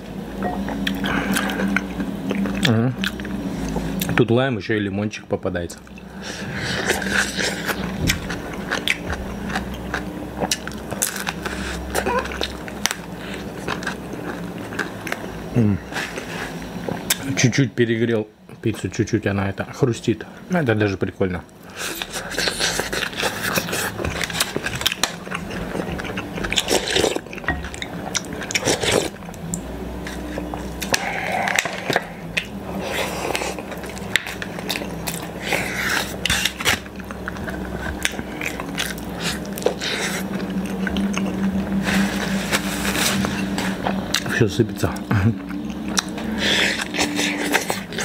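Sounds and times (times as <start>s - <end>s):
steady low hum: 0.0s - 48.0s
chewing and wet mouth sounds: 0.4s - 4.2s, 5.7s - 17.3s, 21.5s - 48.0s.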